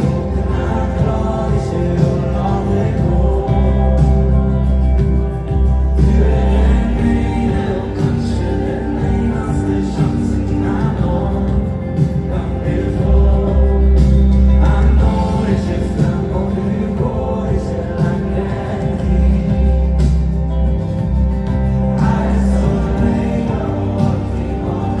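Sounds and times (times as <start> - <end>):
band track with heavy bass: 0.0 - 25.0.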